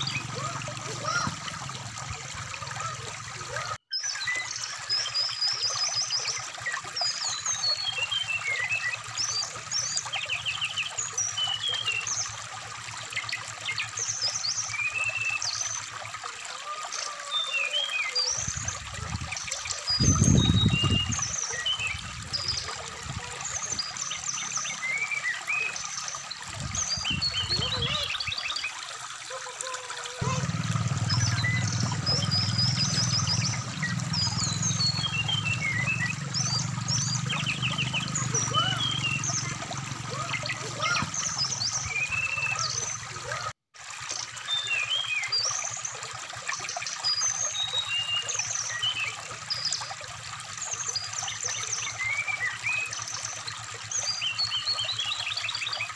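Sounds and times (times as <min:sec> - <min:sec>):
bird song chirps and trills: 0:00.0 - 0:02.2, 0:02.8 - 0:15.9, 0:16.6 - 0:29.4, 0:30.2 - 0:43.5, 0:44.2 - 0:55.9
stream trickling: 0:00.0 - 0:55.9.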